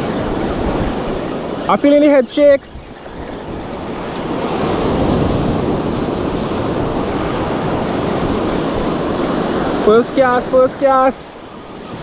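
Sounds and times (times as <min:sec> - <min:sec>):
surf breaking on beach: 0:00.0 - 0:12.0
wind rumbling on microphone: 0:00.0 - 0:12.0.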